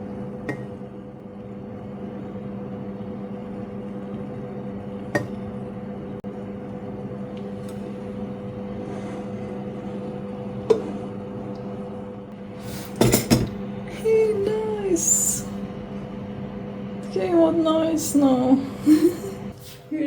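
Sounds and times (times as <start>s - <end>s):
appliance electrical hum: 0.0s - 20.0s.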